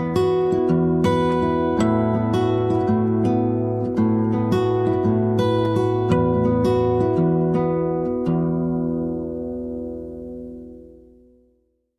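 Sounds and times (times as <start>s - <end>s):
plucked acoustic guitar: 0.0s - 11.7s.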